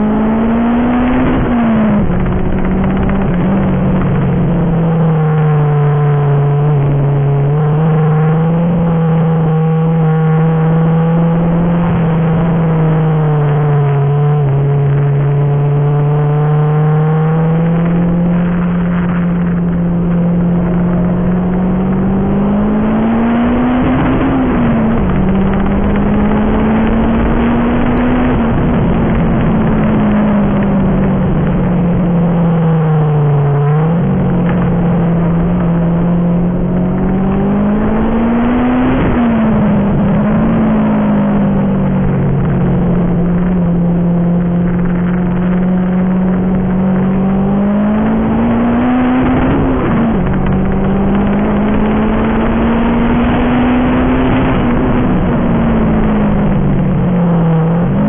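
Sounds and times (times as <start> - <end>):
turbocharged car engine revving: 0.0 - 58.0.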